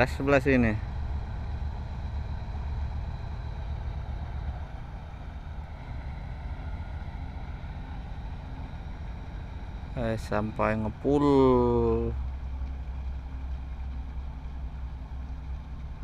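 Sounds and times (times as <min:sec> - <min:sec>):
boat diesel engine rumbling: 0:00.0 - 0:16.0.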